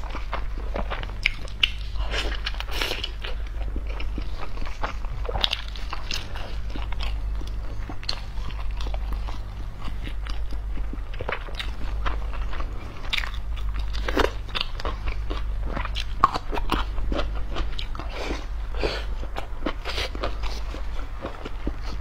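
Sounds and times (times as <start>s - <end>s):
chewing soft bun: 0.0s - 22.0s
low hum: 0.0s - 22.0s.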